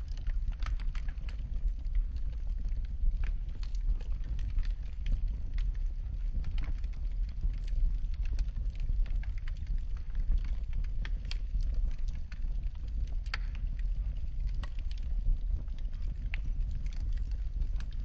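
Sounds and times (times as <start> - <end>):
low fire rumble: 0.0 - 18.0
wood fire crackling and popping: 0.0 - 18.0.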